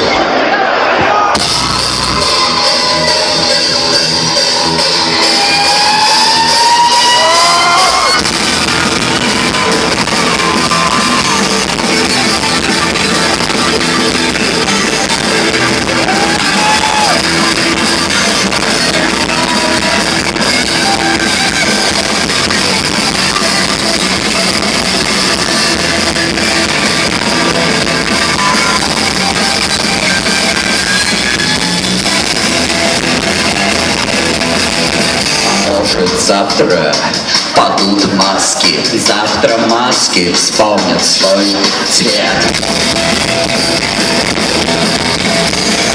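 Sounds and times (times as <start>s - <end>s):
electric guitars: 1.3s - 45.9s
rock band playing live: 1.3s - 45.9s.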